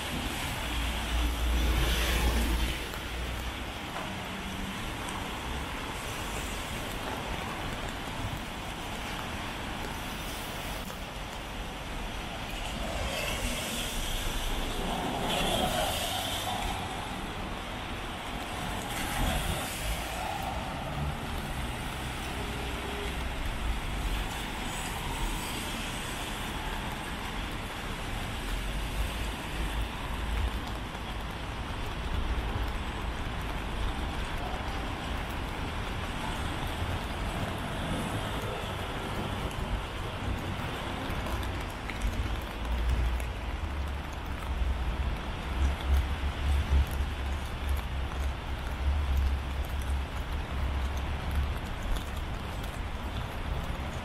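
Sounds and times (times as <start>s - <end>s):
cars and trucks passing: 0.0s - 54.0s.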